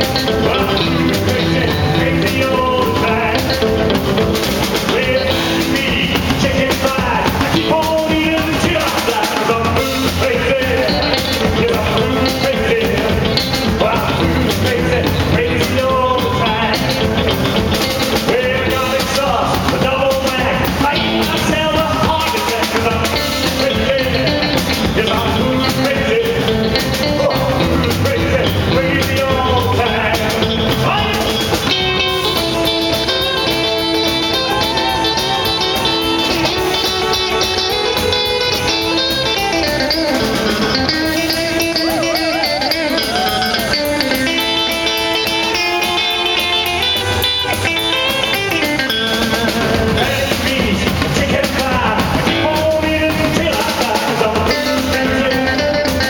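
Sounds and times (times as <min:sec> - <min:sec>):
drum kit: 0:00.0 - 0:56.0
electric guitar lines: 0:00.0 - 0:56.0
live rock band playing: 0:00.0 - 0:56.0.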